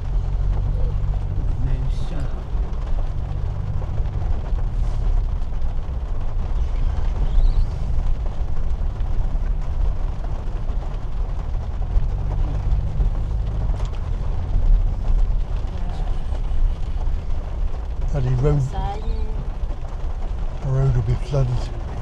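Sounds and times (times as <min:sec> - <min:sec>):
car interior driving rumble: 0:00.0 - 0:22.0.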